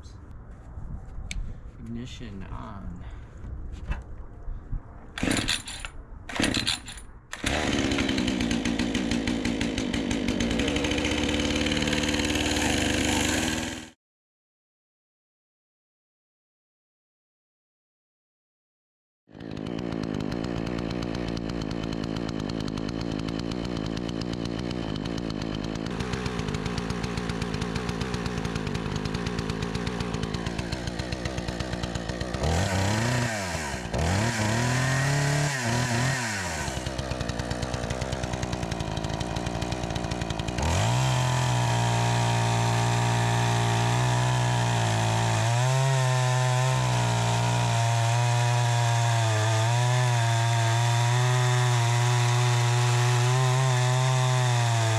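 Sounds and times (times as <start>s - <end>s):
chainsaw idling and revving: 5.2s - 14.0s, 19.3s - 54.9s.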